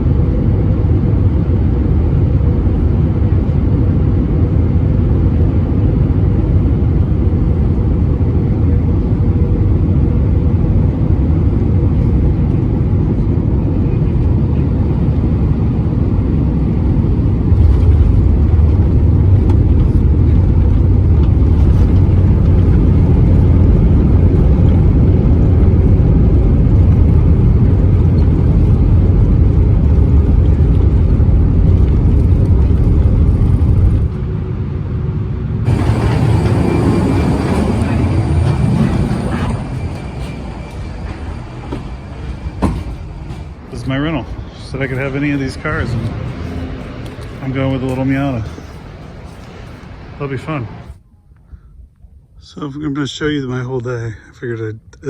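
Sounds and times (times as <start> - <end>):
low rumble of vehicle in motion: 0.0 - 55.0.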